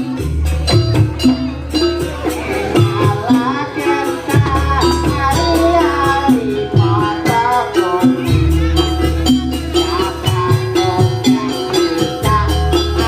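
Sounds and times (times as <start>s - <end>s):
person singing wavering melody: 0.0s - 13.0s
repeating percussion: 0.0s - 13.0s
sustained bass: 0.0s - 13.0s.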